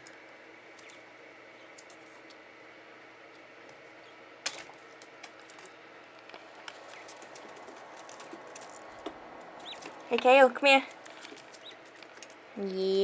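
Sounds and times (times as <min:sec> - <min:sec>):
quail pecking and scratching: 0:00.7 - 0:02.4, 0:03.3 - 0:12.4.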